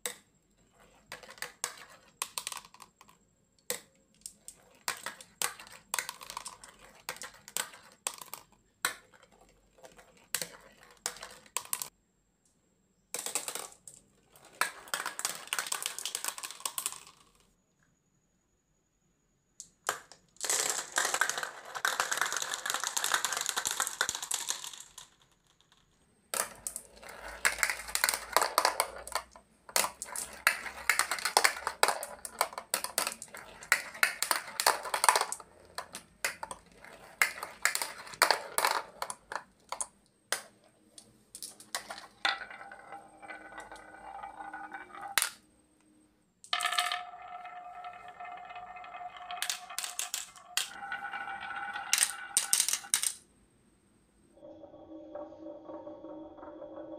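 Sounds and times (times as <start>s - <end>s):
marbles rolling on wooden groove: 0.6s - 12.0s, 13.2s - 17.6s, 19.6s - 45.8s, 46.4s - 53.2s
marbles rolling down plastic track: 0.8s - 12.0s, 13.2s - 17.5s, 19.6s - 45.5s, 46.4s - 53.2s
marbles clattering into plastic truck: 0.9s - 12.0s, 13.2s - 17.5s, 19.6s - 45.5s, 46.4s - 53.3s.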